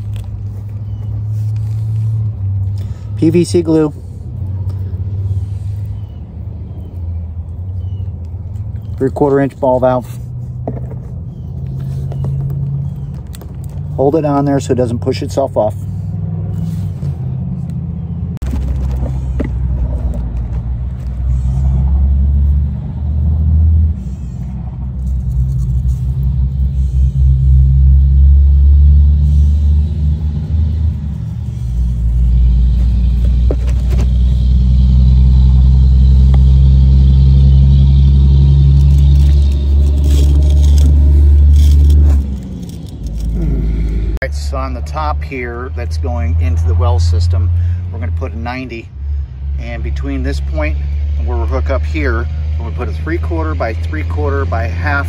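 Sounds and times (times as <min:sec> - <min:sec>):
heavy highway traffic rumble: 0:00.0 - 0:55.0.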